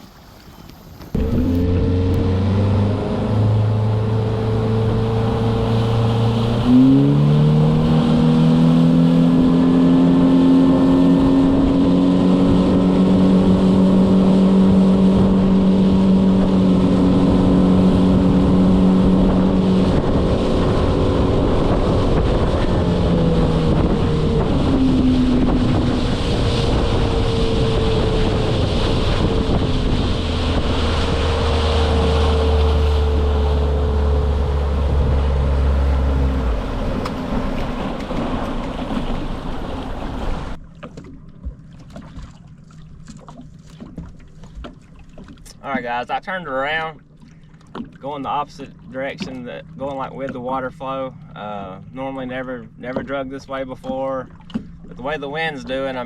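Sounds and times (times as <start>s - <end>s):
boat motor running: 0.6s - 56.0s.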